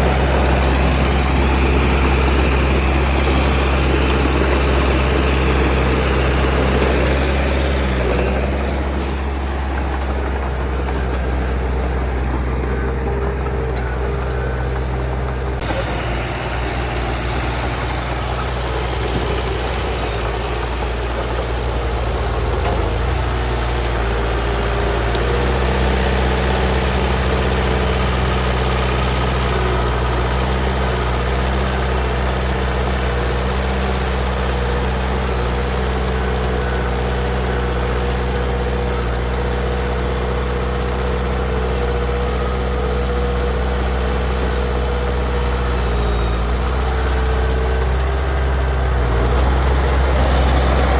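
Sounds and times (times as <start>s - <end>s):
heavy diesel engine humming: 0.0s - 50.9s.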